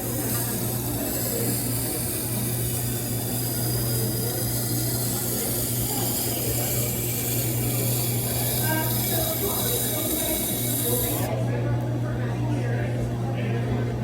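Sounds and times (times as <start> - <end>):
grinding stone turning through water: 0.0 - 11.3
motor hum: 0.0 - 11.3.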